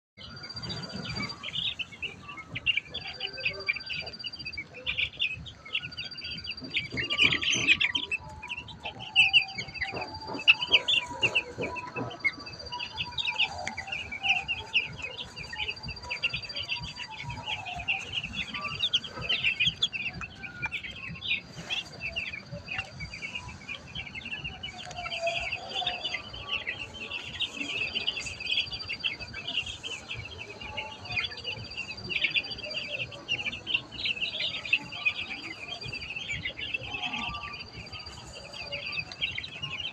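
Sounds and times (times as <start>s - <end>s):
chicks peeping: 0.2s - 39.9s.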